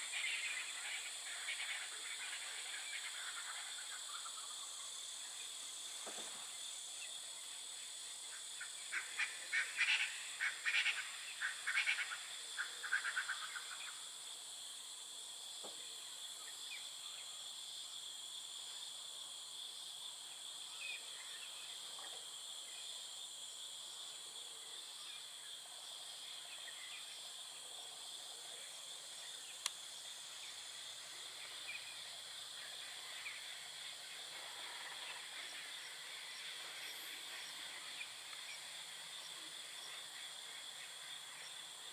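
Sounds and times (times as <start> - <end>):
high-pitched insect chorus: 0.0 - 41.9.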